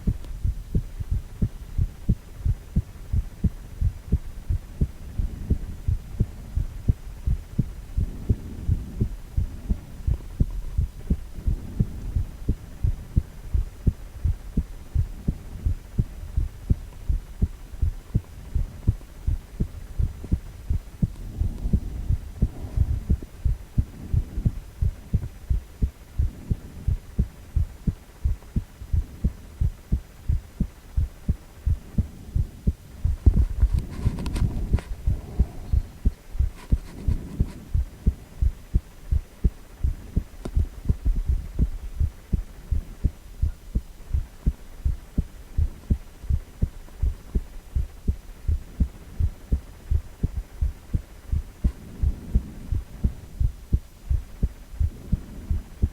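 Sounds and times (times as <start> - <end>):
heartbeat thumps: 0.0 - 55.9
low hum: 0.0 - 55.9.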